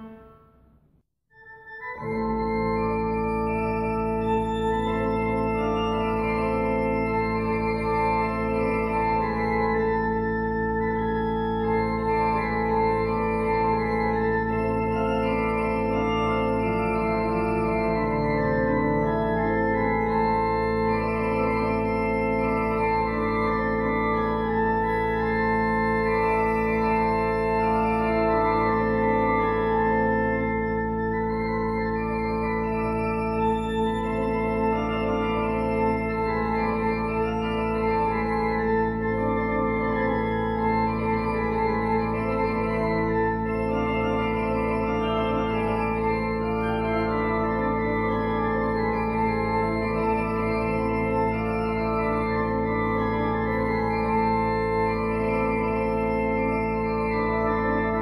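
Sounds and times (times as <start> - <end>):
pipe organ playing: 0.0 - 0.5, 1.4 - 58.0.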